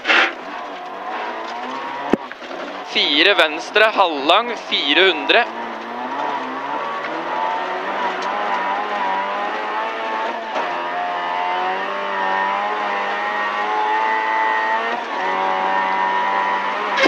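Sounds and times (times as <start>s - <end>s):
car engine at high revs: 0.0s - 17.0s
tyre and road noise: 0.0s - 17.0s.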